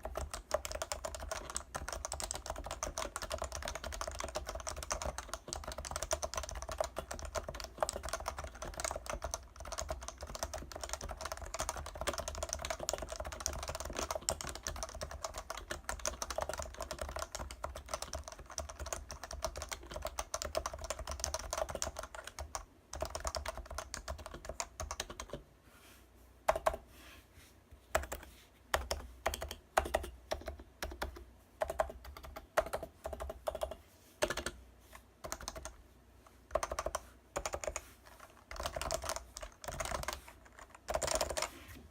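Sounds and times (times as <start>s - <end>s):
keyboard typing: 0.0s - 25.4s, 26.5s - 26.8s, 27.9s - 34.6s, 35.2s - 35.8s, 36.5s - 41.5s.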